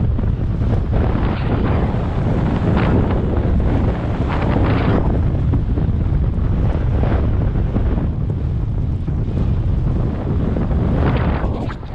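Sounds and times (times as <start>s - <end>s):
wind rushing over microphone: 0.0s - 11.9s.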